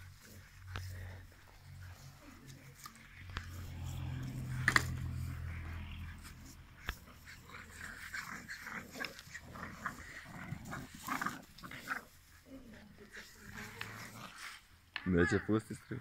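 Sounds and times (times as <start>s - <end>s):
dogs growling: 0.0s - 14.7s.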